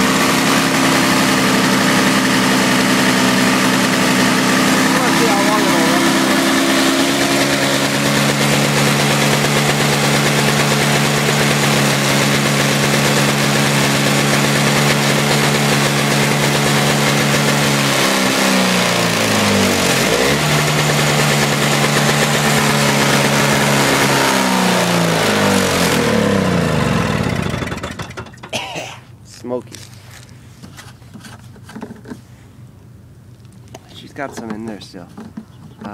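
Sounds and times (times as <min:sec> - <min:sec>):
snowblower engine running: 0:00.0 - 0:28.8.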